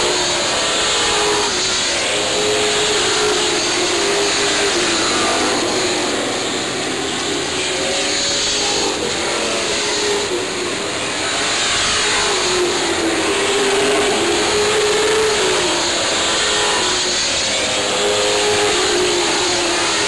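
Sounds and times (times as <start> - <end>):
stock car engines racing: 0.0 - 20.0.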